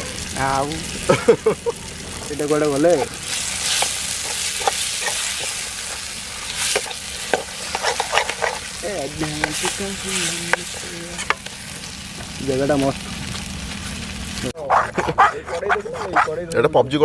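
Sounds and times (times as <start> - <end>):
food sizzling in a pan: 0.0 - 14.6.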